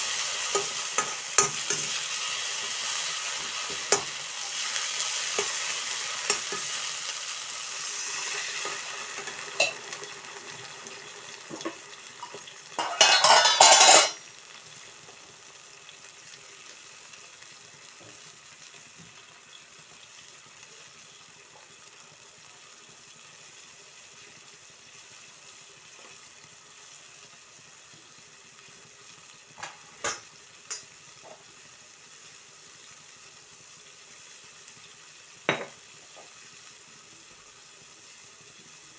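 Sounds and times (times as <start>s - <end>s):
leaves sizzling in a wok: 0.0s - 38.9s
water hissing in hot oil: 0.0s - 38.9s.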